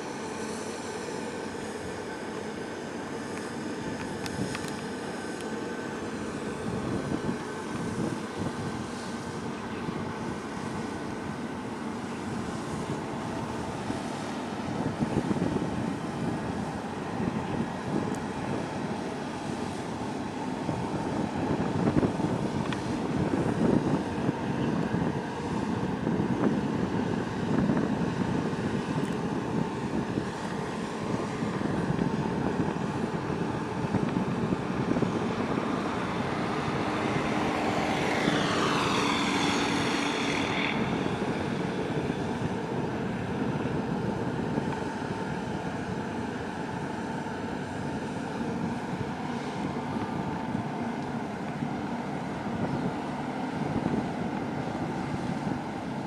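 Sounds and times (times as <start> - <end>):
ship engine rumble: 0.0 - 56.0.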